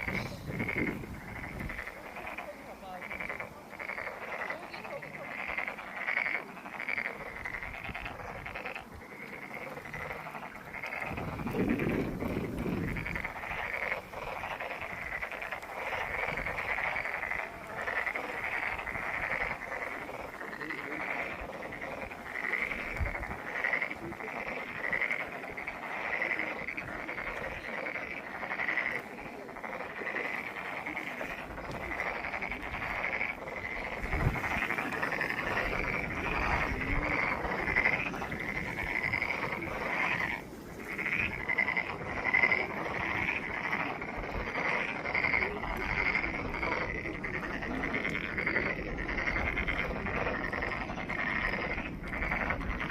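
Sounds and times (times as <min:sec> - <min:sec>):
chorus of frogs calling: 0:00.0 - 0:52.9.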